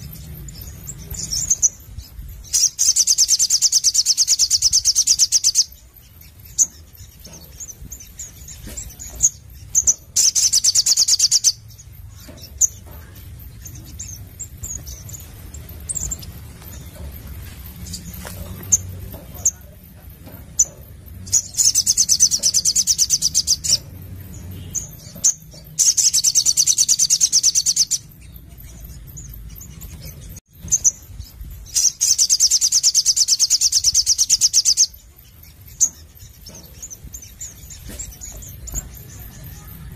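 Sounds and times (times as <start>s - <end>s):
bird high rapid trills: 0.0s - 39.9s.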